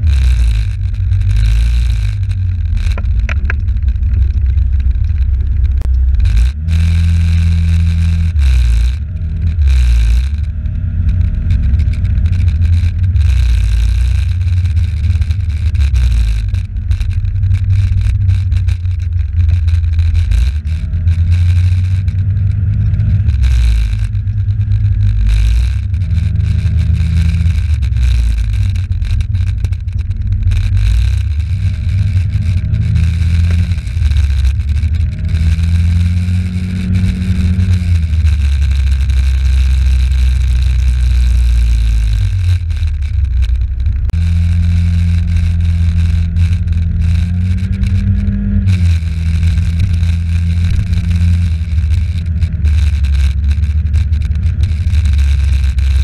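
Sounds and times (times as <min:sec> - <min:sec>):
scooter engine: 0:00.0 - 0:56.0
wind rumble on microphone: 0:00.0 - 0:56.0.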